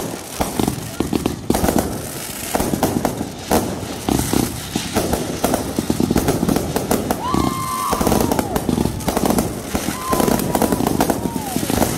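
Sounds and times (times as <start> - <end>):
fireworks bangs and crackles: 0.0 - 11.9.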